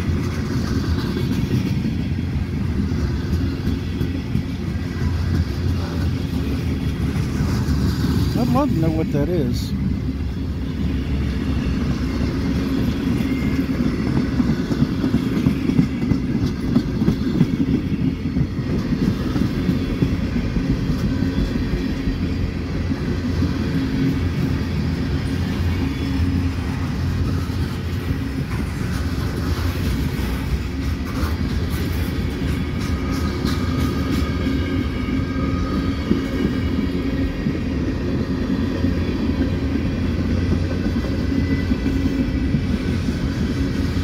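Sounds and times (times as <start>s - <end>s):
freight train rolling past: 0.0s - 44.0s.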